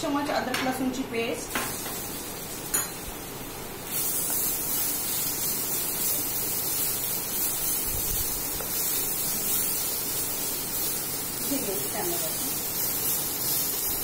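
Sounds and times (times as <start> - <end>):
paste sizzling in hot oil: 1.5 - 14.0.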